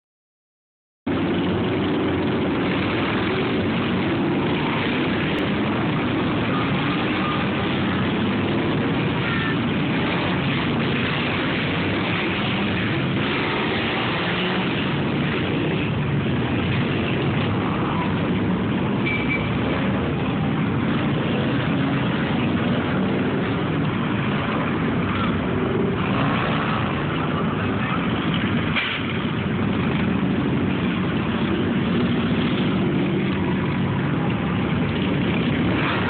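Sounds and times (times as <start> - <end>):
motorcycle engines running: 1.1 - 36.0.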